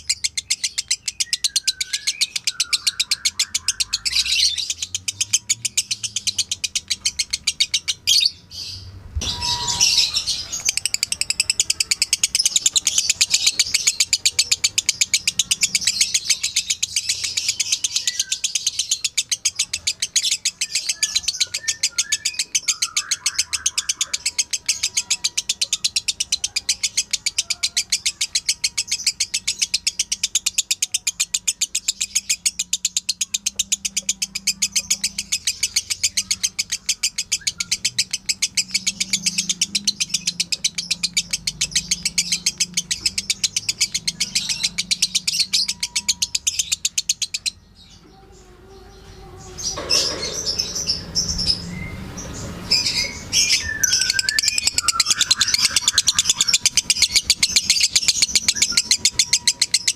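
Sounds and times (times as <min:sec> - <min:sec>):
lovebird chattering chirps: 0:00.0 - 0:47.7, 0:49.6 - 0:59.9.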